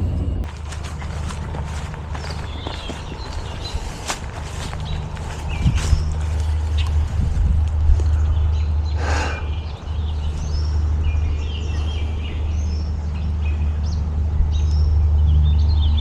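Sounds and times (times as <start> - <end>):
steady low rumble: 0.0 - 16.0
songbirds chirping: 0.3 - 16.0.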